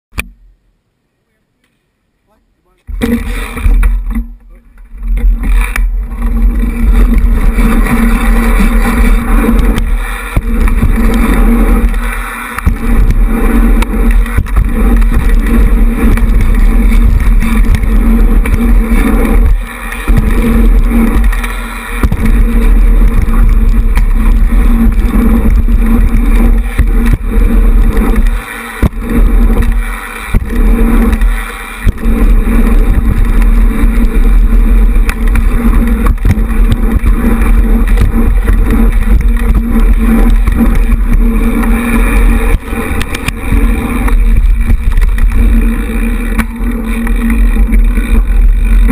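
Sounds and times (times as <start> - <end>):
wind buffeting microphone: 4.9 - 48.9.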